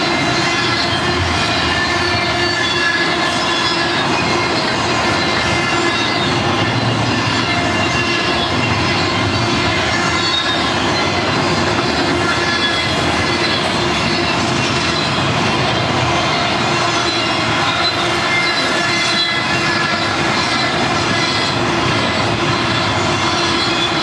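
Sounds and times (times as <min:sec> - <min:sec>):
high-pitched wheel squeal: 0:00.0 - 0:24.0
steel wheels rumbling on rail: 0:00.0 - 0:24.0.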